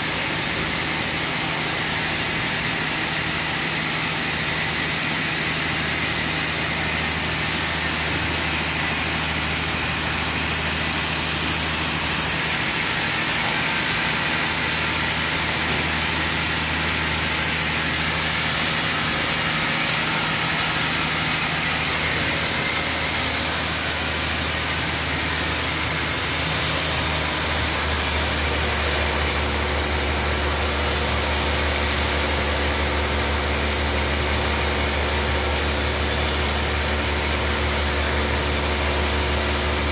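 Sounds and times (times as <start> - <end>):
sawmill machinery humming and hissing: 0.0 - 39.9.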